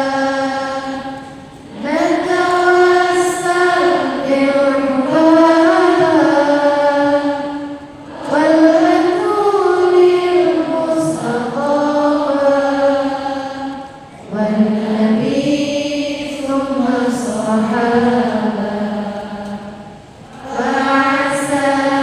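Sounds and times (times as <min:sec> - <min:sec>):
woman chanting: 0:00.0 - 0:19.8, 0:20.4 - 0:22.0.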